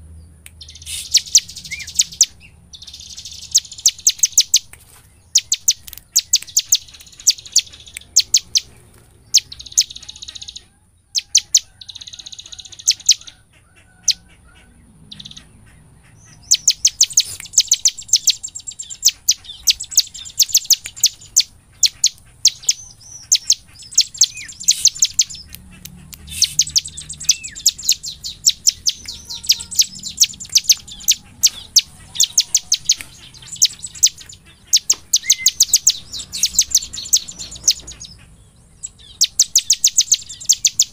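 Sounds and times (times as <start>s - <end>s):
bird singing rapid sharp chips: 0.0s - 40.9s.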